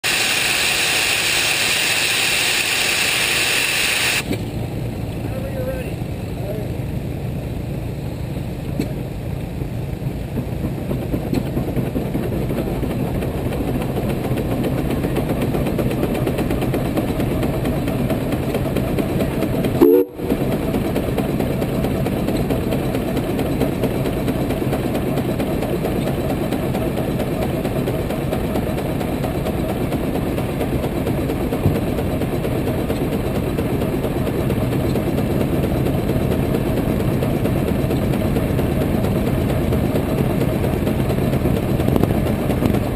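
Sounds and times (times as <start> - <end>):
steam engine exhaust chuffing: 0.0 - 42.9.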